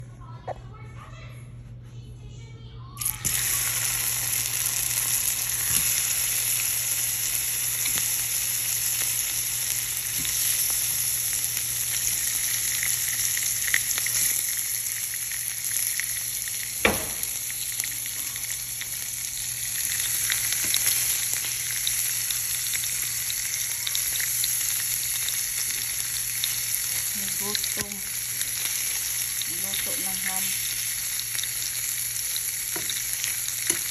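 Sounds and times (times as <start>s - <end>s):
ham sizzling in a pan: 3.0s - 33.9s.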